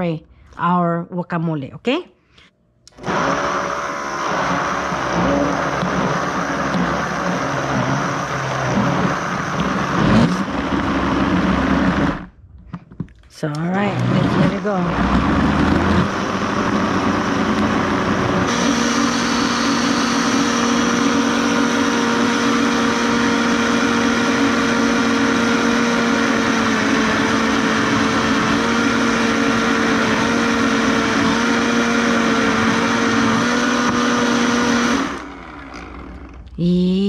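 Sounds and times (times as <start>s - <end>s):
blender motor running: 2.9s - 12.3s, 13.8s - 37.0s.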